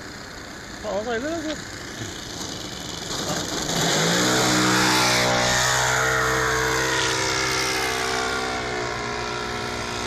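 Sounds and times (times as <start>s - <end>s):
model airplane engine revving: 0.9s - 10.0s.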